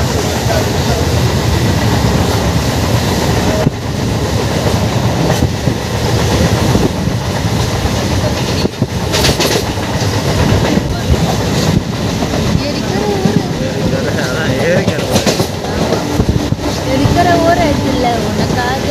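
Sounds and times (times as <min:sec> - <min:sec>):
train wheel clacks: 0:00.0 - 0:18.9
train wheels rumbling and rattling: 0:00.0 - 0:18.9.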